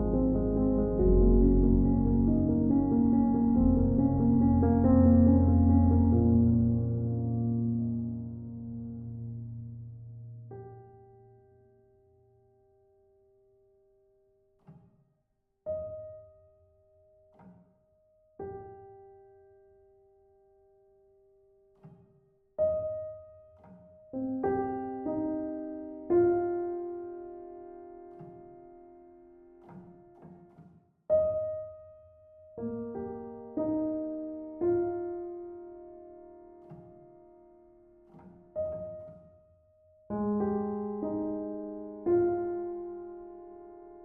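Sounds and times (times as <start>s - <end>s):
slow solo piano: 0.0s - 14.3s, 15.7s - 22.0s, 22.6s - 44.0s.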